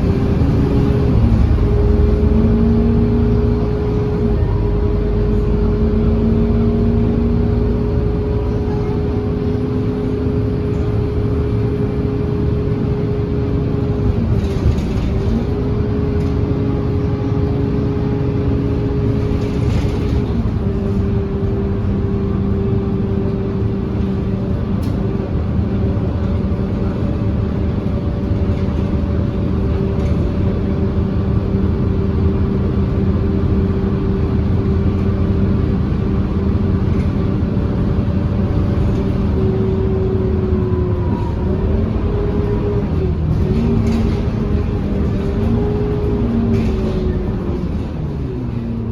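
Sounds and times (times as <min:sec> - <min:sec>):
bus engine humming and whining: 0:00.0 - 0:48.9.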